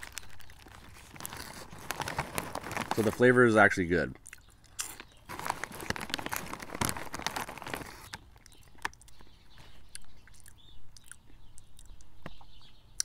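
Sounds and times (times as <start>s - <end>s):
person chewing crunchy chips: 0.0s - 3.2s, 4.2s - 12.1s.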